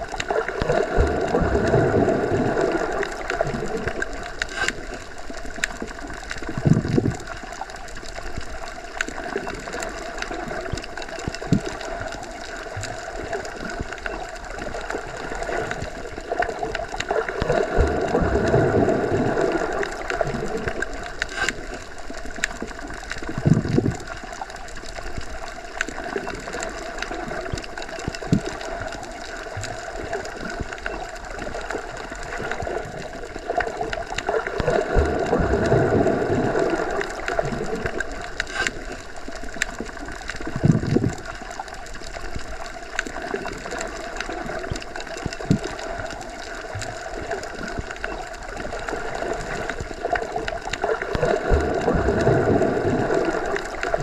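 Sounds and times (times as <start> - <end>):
low water surges: 0.0 - 54.0
muffled underwater rush: 0.0 - 54.0
faint clicks: 2.7 - 18.6, 19.4 - 35.8, 36.6 - 52.3.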